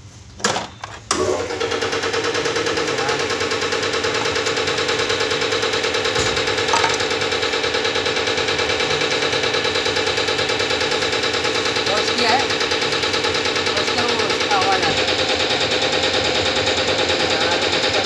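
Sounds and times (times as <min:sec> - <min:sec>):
machine running with rapid pulse: 0:01.5 - 0:18.0.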